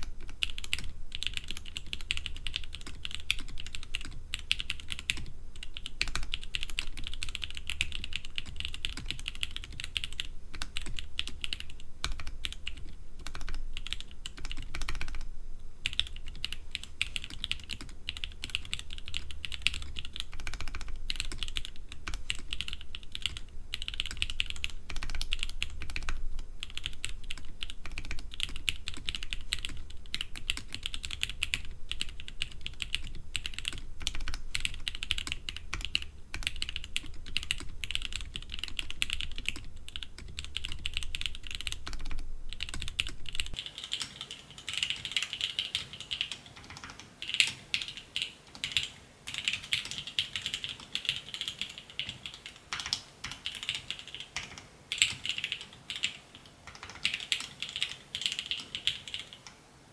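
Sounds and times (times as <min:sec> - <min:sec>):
mechanical keyboard typing: 0:00.0 - 0:59.5.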